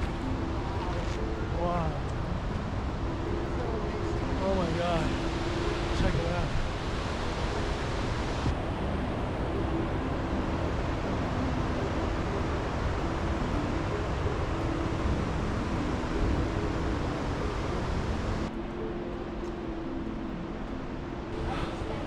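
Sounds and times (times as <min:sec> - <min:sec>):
waterfall rushing: 0:00.0 - 0:18.6, 0:19.3 - 0:22.0.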